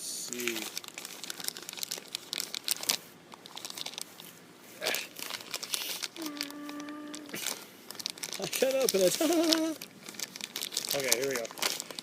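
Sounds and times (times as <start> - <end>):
bird seed bag crinkling: 0.3 - 12.0.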